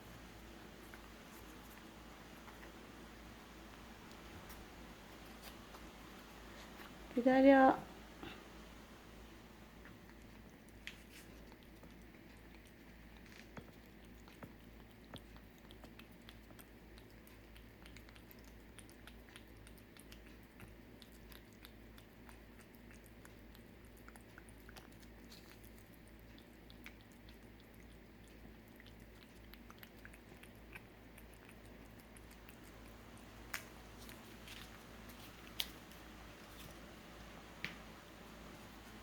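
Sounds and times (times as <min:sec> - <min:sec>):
cat licking and chewing: 0:00.0 - 0:07.2, 0:07.9 - 0:39.0.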